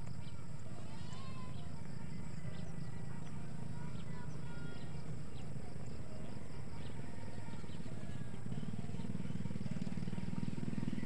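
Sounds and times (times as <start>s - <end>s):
faint bird chirps: 0.0s - 11.0s
vehicle engine running: 0.0s - 11.0s.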